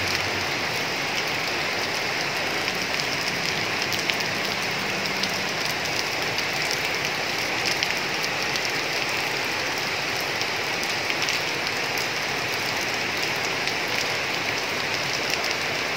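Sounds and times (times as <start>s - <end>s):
raindrops ticking: 0.0s - 15.9s
steady rain falling: 0.0s - 15.9s.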